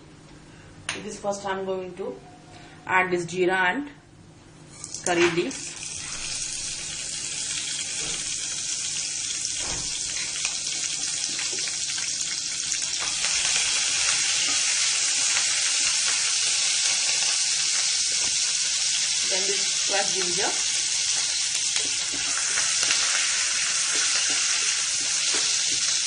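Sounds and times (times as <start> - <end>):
seeds sizzling in hot oil: 4.9 - 26.0.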